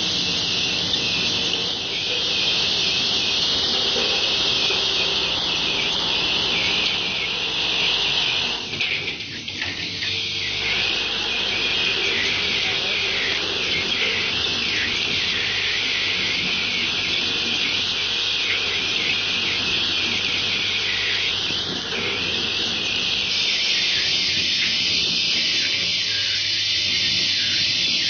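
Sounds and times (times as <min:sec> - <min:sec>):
machine high hiss: 0:00.0 - 0:28.0.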